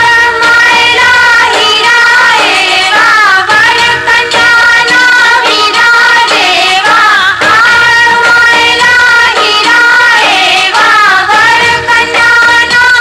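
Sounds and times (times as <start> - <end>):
high voice singing with vibrato: 0.0 - 13.0
instrumental accompaniment: 0.0 - 13.0.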